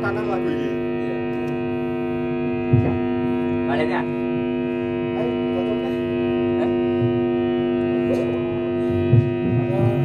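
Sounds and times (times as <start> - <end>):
amplifier hum and buzz: 0.0 - 10.0
low uneven rumble: 0.0 - 10.0.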